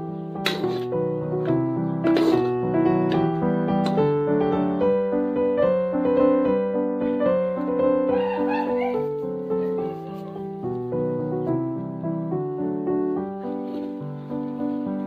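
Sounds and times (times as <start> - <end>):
piano waltz: 0.0 - 15.0.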